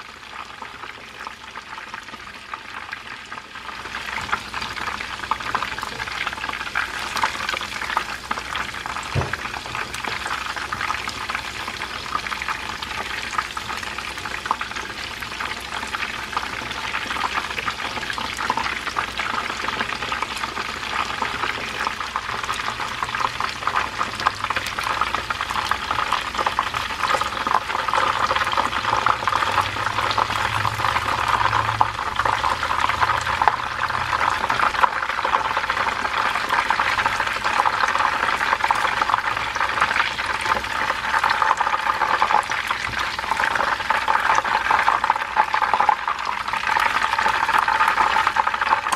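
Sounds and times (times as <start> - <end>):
chicken deep-frying in hot oil: 0.0 - 48.9.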